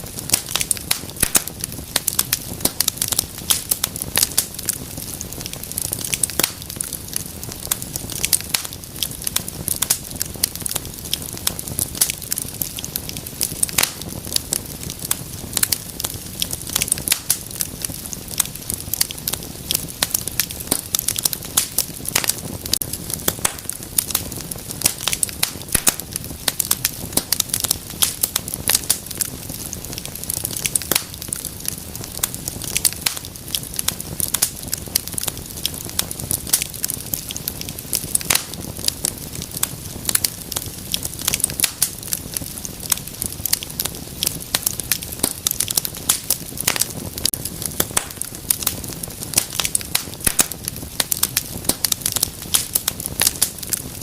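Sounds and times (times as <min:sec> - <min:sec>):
low rumble of flame: 0:00.0 - 0:54.0
wood fire popping and snapping: 0:00.0 - 0:54.0.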